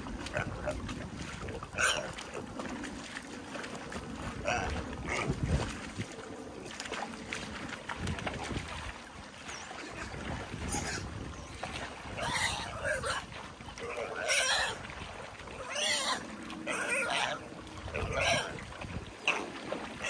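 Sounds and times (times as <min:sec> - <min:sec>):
water splashing: 0:00.0 - 0:20.0.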